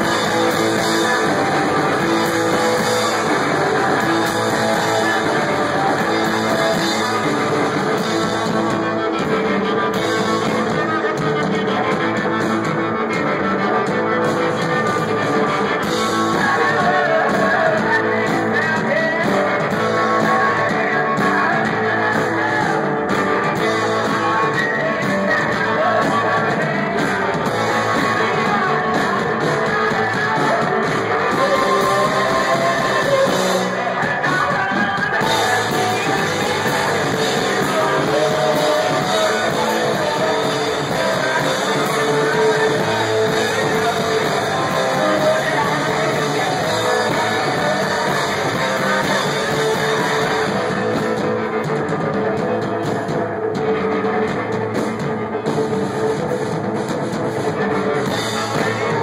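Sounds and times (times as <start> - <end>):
drum kit: 0.0 - 59.0
electric guitars: 0.0 - 59.0
lead singer: 0.0 - 59.0.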